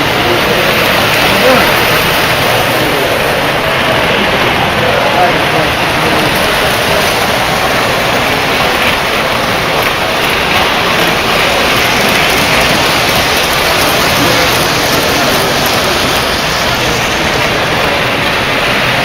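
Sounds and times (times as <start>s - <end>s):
indistinct crowd chatter: 0.0s - 19.0s
toy trains running on track: 0.0s - 19.0s.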